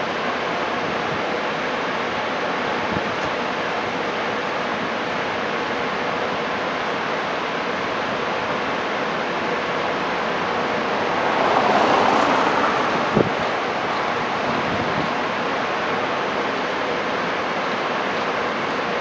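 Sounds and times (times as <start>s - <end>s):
city street noise: 0.0s - 19.0s.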